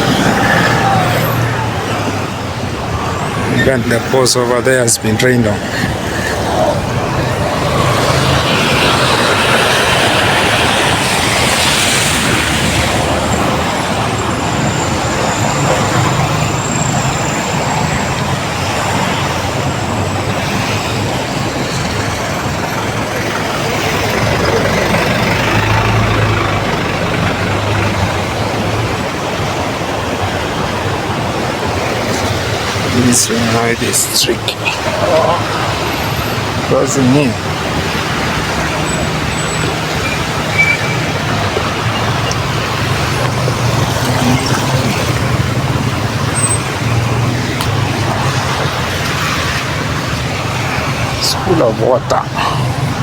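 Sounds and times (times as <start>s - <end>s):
engine hum: 0.0s - 53.0s
traffic hiss: 0.0s - 53.0s.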